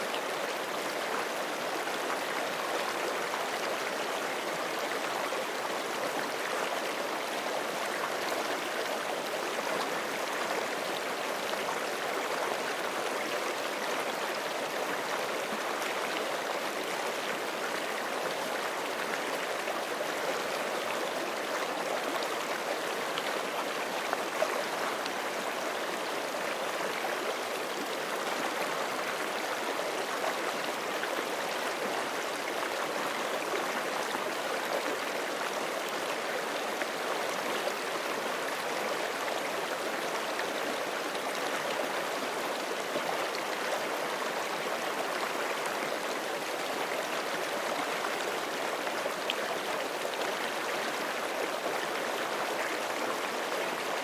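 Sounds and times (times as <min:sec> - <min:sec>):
creek water gurgling over stones: 0:00.0 - 0:54.0.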